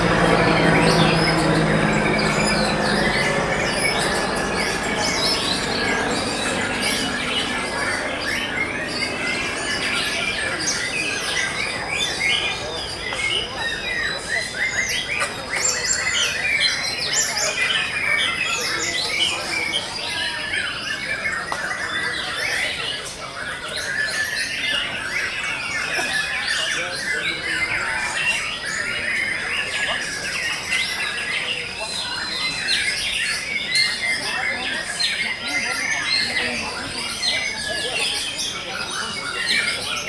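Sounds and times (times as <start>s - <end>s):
birds singing whistles and trills: 0.0s - 40.0s.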